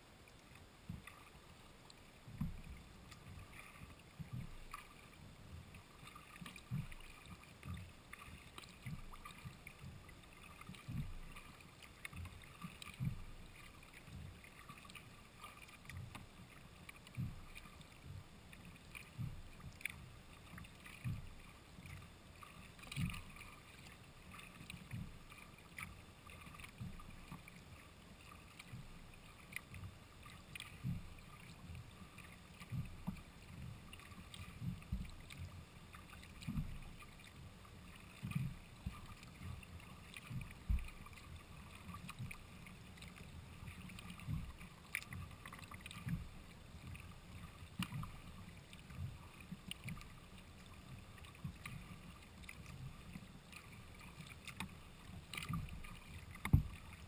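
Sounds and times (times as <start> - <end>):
paddle strokes: 0.0 - 57.0
water lapping against hull: 0.0 - 57.0.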